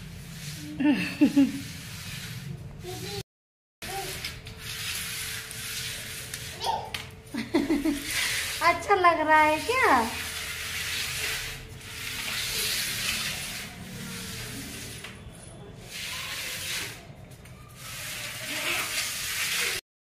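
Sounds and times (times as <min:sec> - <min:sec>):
plastic basket scraping on marble: 0:00.0 - 0:03.2, 0:03.8 - 0:06.6, 0:07.6 - 0:19.8.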